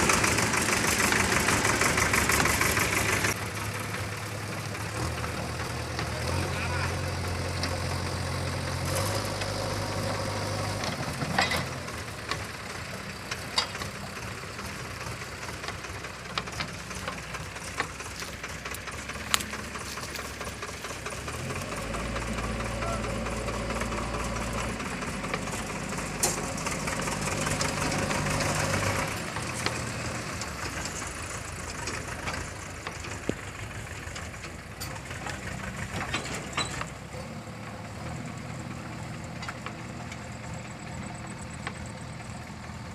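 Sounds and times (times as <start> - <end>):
diesel engine working: 0.0 - 42.9.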